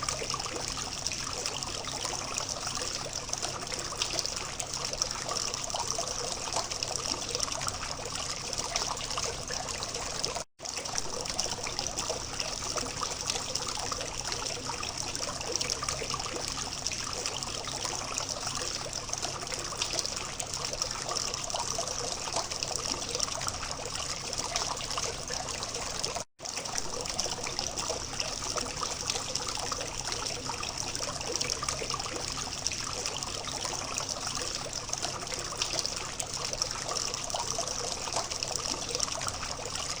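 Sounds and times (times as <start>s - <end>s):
fountain water trickling and splashing: 0.0s - 40.0s.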